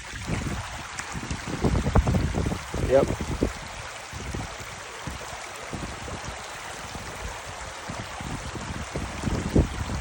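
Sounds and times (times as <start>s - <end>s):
creek water flowing: 0.0s - 10.0s
wind buffeting microphone: 0.0s - 10.0s.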